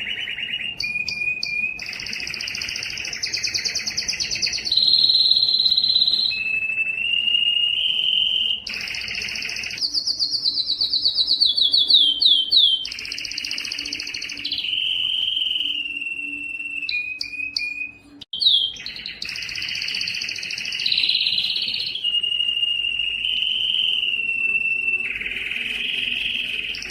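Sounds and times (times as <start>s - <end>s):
canary singing trills: 0.0s - 26.9s.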